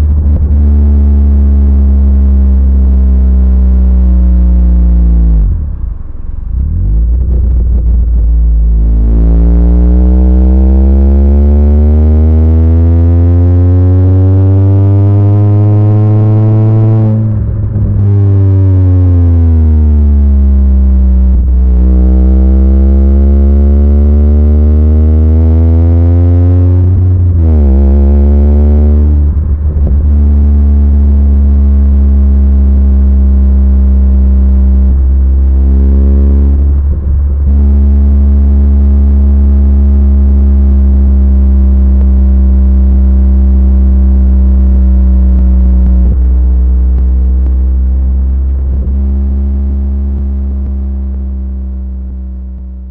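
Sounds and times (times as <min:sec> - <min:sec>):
car engine and exhaust droning: 0:00.0 - 0:52.9.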